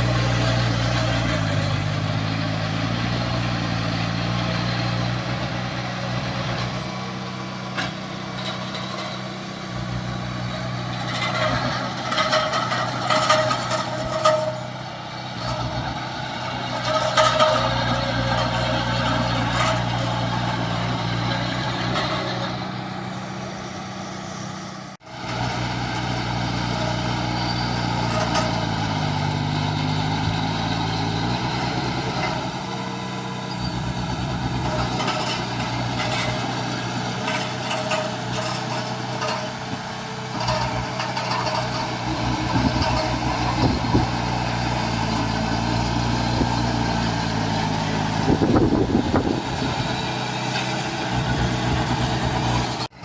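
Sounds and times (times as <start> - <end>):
diesel machinery running: 0.0 - 53.0.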